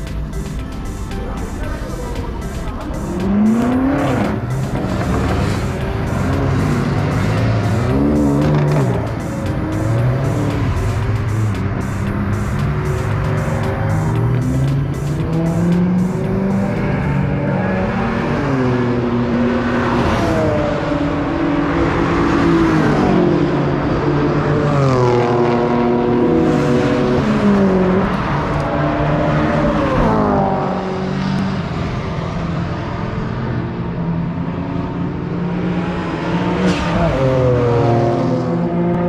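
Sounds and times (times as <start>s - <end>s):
race car engines revving and passing: 1.2s - 39.0s.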